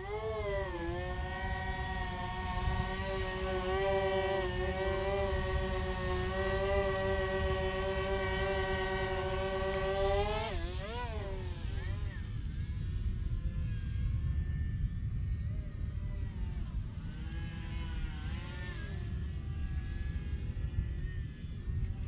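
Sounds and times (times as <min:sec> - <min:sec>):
model plane propellers whining: 0:00.0 - 0:22.0.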